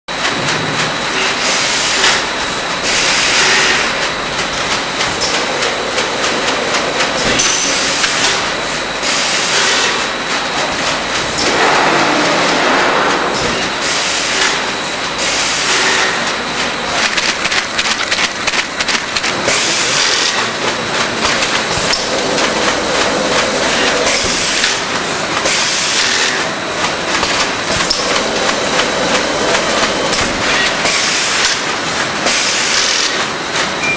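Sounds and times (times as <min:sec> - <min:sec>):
machine mechanical clatter: 0:00.1 - 0:33.8.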